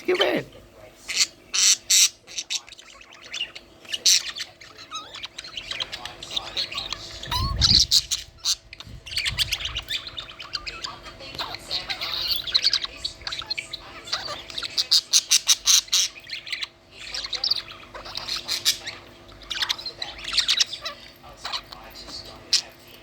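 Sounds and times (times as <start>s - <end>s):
budgerigars chirping and squawking: 0.0s - 23.0s.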